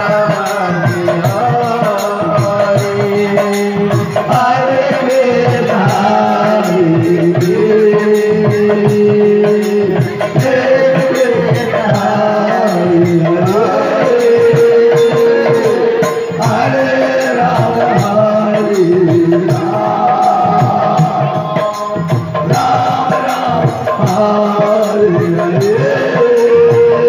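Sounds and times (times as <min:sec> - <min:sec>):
chanted melody: 0:00.0 - 0:27.0
light rattling percussion: 0:00.0 - 0:27.0
steady drum beat: 0:00.0 - 0:27.0.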